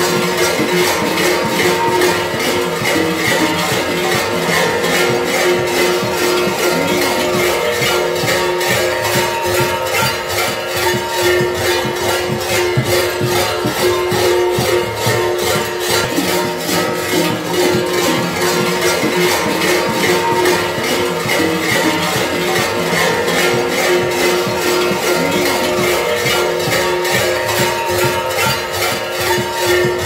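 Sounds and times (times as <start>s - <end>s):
metal bells clanging: 0.0s - 30.0s.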